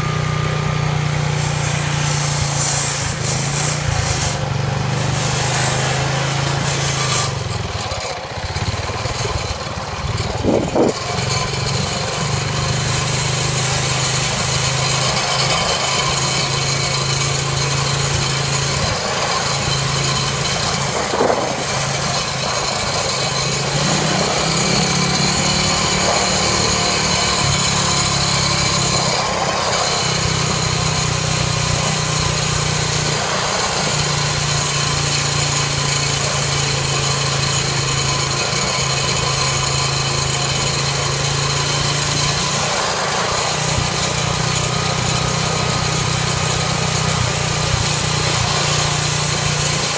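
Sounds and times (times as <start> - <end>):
road and wind noise: 0.0 - 49.9
small motorcycle engine running: 0.0 - 49.9.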